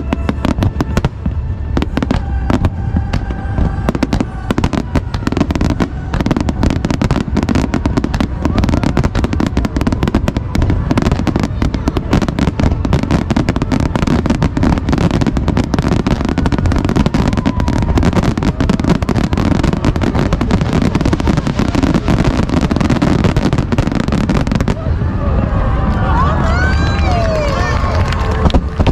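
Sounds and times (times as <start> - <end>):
fireworks booming and crackling: 0.0 - 28.9.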